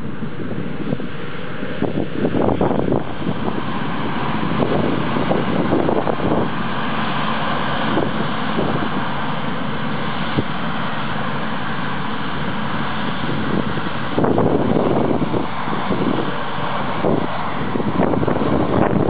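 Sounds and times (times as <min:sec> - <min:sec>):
combine harvester running: 0:00.0 - 0:19.0
wind buffeting microphone: 0:00.0 - 0:19.0.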